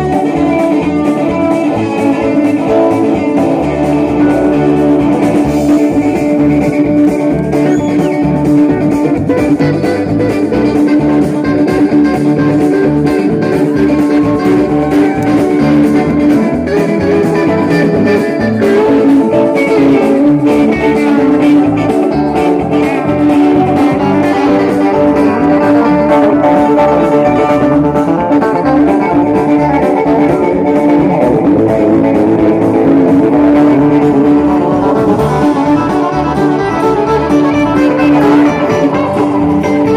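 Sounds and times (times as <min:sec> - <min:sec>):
guitar: 0:00.0 - 0:39.9
live band playing: 0:00.0 - 0:39.9.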